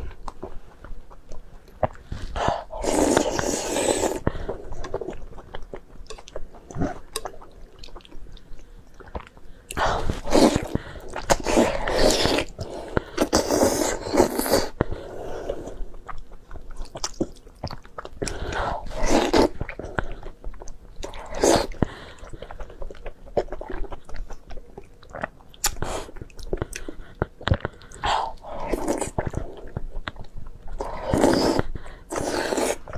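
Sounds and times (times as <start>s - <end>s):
person chewing food: 0.0s - 32.9s.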